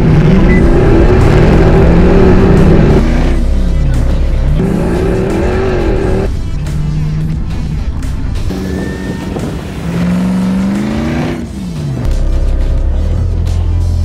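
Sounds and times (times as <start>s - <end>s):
racing engine accelerating: 0.0s - 7.7s, 8.4s - 13.5s.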